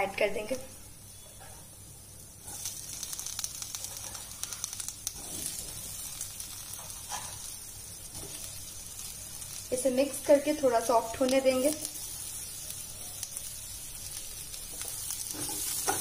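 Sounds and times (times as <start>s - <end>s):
vegetables sizzling in frying pan: 0.4s - 16.0s.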